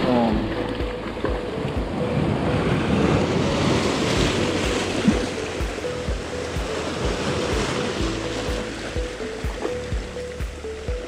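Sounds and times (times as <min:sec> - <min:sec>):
sea surf washing over rocks: 0:00.0 - 0:11.0.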